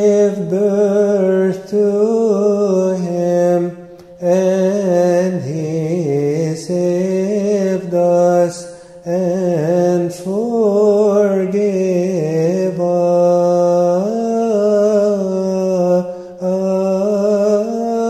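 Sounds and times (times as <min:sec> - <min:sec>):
person chanting a hymn: 0:00.0 - 0:18.0.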